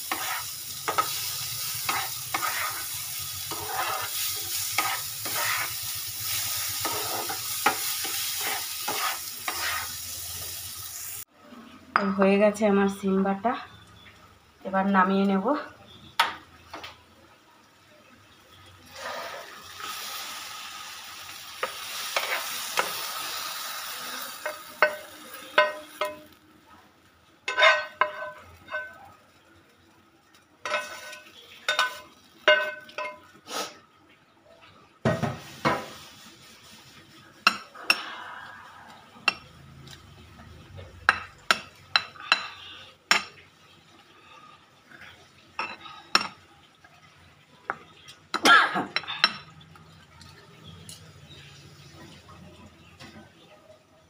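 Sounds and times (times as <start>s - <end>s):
bean paste sizzling in a pan: 0.0s - 11.3s, 12.0s - 33.9s, 35.0s - 48.4s.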